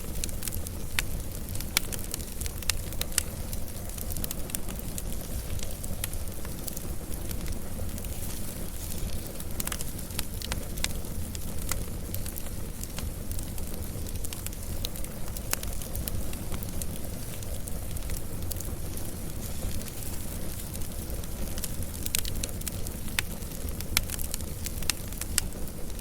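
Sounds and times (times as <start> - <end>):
flames rumbling: 0.0 - 26.0
wood fire crackles and pops: 0.0 - 26.0.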